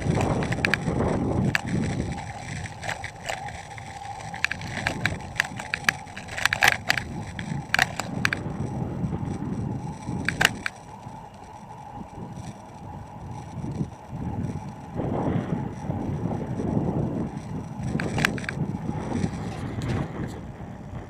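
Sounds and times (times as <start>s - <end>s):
bicycle clicks and rattles: 0.0s - 21.0s
bicycle rolling rumble: 0.0s - 21.0s.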